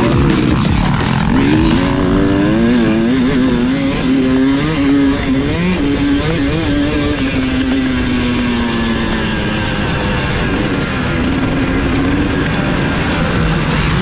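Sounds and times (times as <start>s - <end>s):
dirt bike engine racing: 0.0s - 14.0s.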